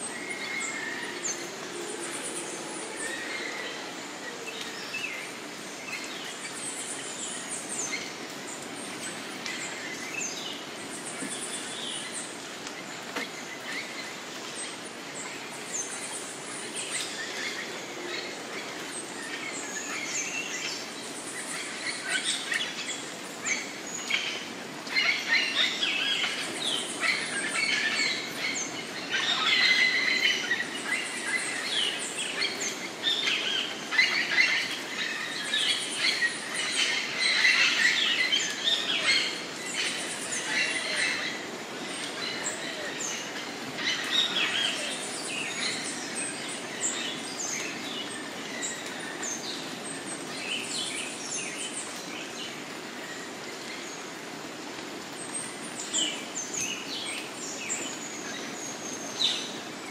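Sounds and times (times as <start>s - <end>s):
steady background hiss: 0.0s - 59.9s
birds chirping and calling: 4.5s - 59.9s.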